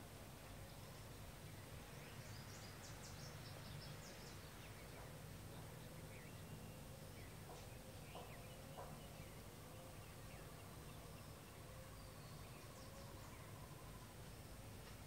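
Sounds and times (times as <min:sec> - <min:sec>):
distant birds chirping: 0:00.4 - 0:15.0.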